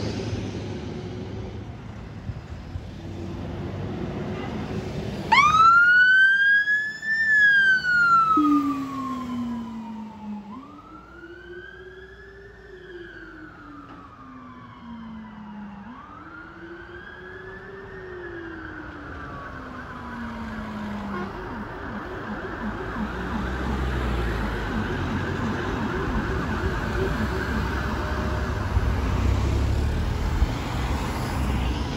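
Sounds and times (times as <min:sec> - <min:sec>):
fire engine siren wailing: 0:05.2 - 0:31.9
deep howler siren tone: 0:05.3 - 0:31.9.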